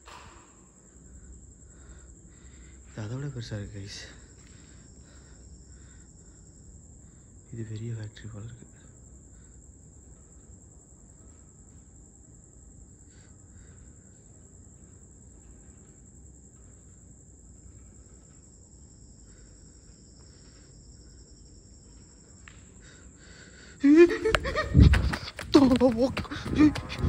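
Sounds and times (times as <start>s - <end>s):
crickets trilling: 0.0s - 27.0s
lower-pitched cricket: 0.0s - 27.0s.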